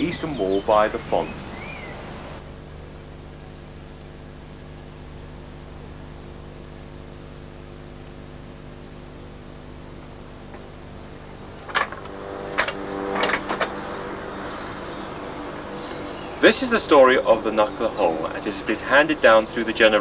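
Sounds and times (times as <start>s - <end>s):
background hiss: 0.0s - 20.0s
electrical hum: 0.0s - 20.0s.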